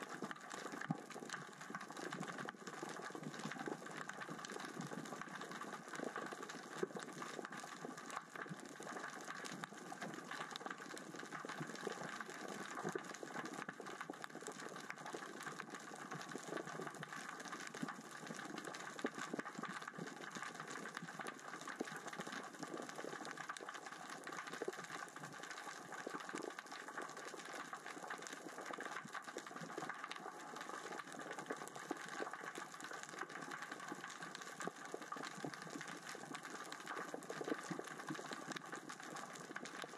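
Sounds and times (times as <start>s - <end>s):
underwater rocks rolling: 0.2s - 39.9s.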